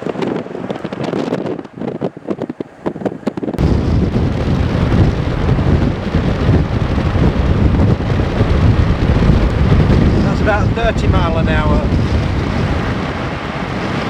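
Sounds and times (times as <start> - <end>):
crackling road noise: 0.0 - 14.0
wind buffeting microphone: 0.0 - 14.0.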